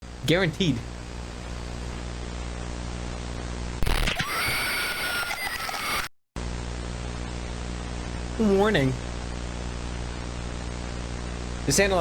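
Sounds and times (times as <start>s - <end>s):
electrical hum: 0.0s - 12.0s
loud static with whining tones: 0.1s - 12.0s.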